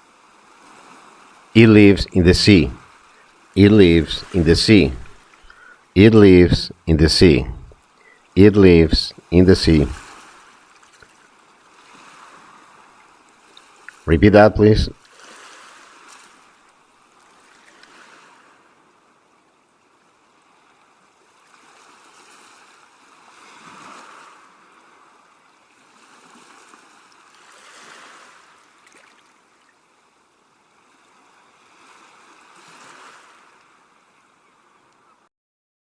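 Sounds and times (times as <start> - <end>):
faint ocean waves: 0.0 - 35.3.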